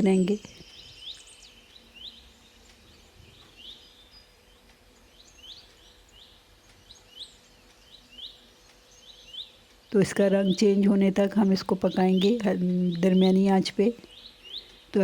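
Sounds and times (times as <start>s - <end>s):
faint steady hum: 0.0s - 15.0s
small bird chirping: 0.0s - 15.0s.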